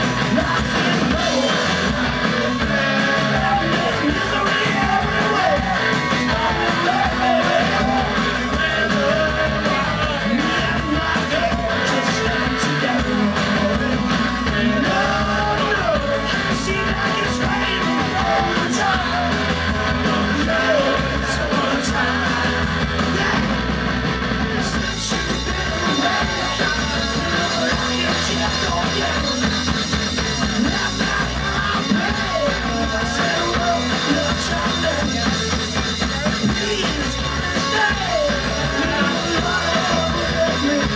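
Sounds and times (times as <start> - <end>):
lead singer singing: 0.0 - 23.7, 24.4 - 40.9
live rock band playing: 0.0 - 40.9.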